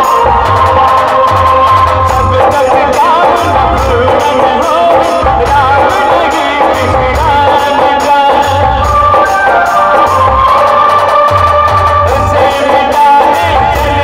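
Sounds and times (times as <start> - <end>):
man singing into microphone: 0.0 - 10.6, 11.7 - 14.0
keyboard: 0.0 - 14.0
steady drum beat: 0.0 - 14.0.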